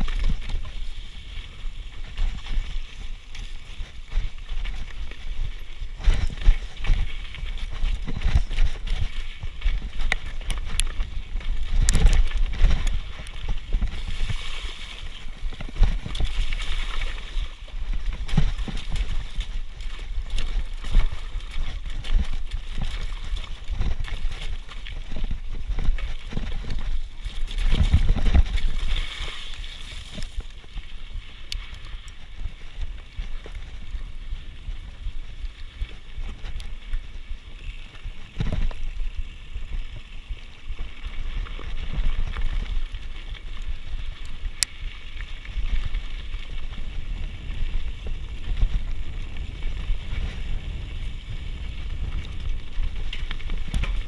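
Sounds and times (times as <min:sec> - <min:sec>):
bike rattling over stones: 0:00.0 - 0:54.0.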